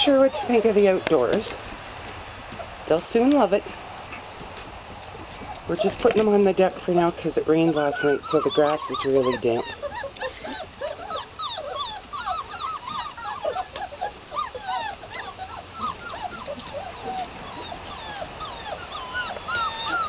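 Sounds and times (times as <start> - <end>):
puppies whimpering and yipping: 0.0 - 4.3, 5.2 - 20.0.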